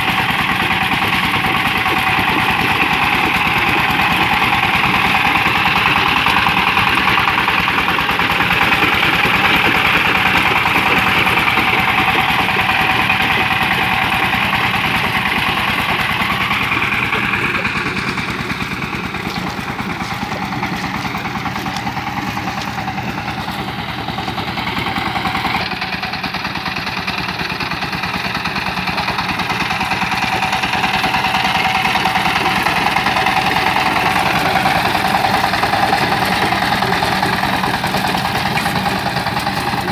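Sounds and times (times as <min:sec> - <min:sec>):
tiller engine chugging: 0:00.0 - 0:39.9.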